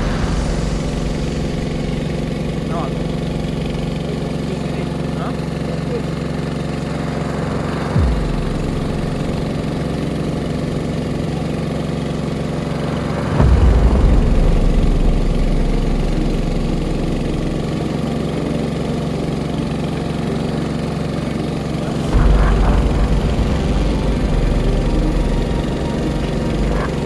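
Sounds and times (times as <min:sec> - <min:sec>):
boat engine idling: 0:00.0 - 0:27.0
low rumble: 0:00.0 - 0:27.0.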